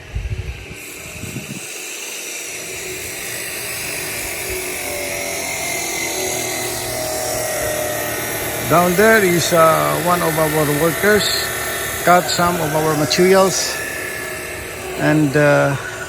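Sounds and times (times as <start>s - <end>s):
power tool cutting: 0.0s - 16.0s.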